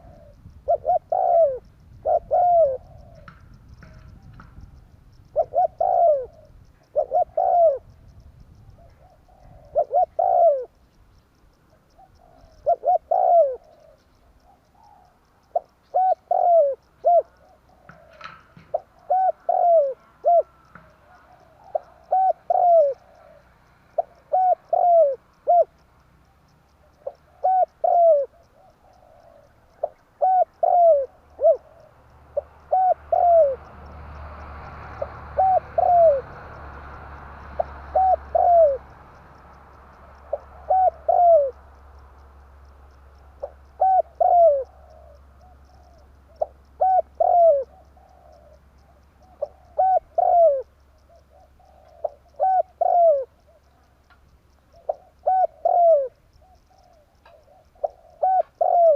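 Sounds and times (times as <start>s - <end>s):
dove cooing: 0.0s - 10.8s, 11.7s - 58.9s.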